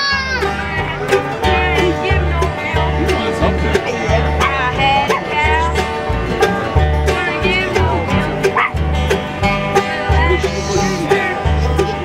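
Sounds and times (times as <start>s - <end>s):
acoustic guitar picking and strumming: 0.0s - 12.0s
mandolin picking melody: 0.0s - 12.0s.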